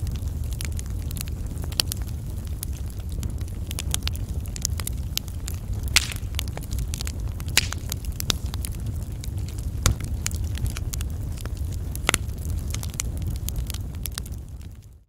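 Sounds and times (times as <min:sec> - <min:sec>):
fire crackling and popping: 0:00.0 - 0:15.0
flames rumbling: 0:00.0 - 0:15.0.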